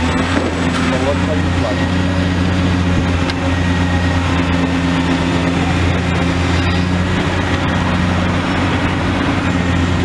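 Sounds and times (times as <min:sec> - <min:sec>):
excavator diesel engine droning: 0:00.0 - 0:10.0.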